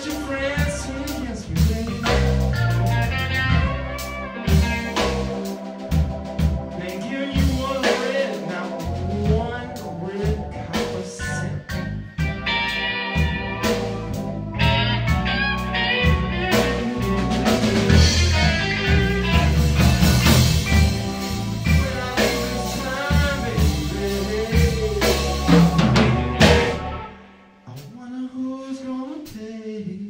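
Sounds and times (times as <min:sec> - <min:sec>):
busy drumming on drum kit: 0:00.0 - 0:03.8, 0:04.5 - 0:11.4, 0:12.2 - 0:27.1
electric guitar: 0:00.0 - 0:27.5
electronic keyboard: 0:00.0 - 0:27.6.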